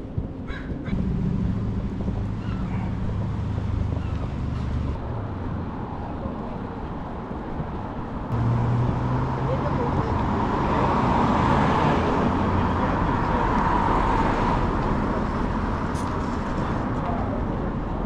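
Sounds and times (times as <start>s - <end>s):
street noise: 0.0s - 18.0s
vehicle engine humming: 0.0s - 18.0s.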